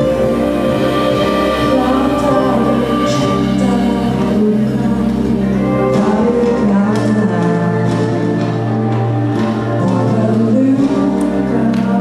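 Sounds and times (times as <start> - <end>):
live band playing soul song: 0.0 - 12.0
person singing: 0.0 - 12.0.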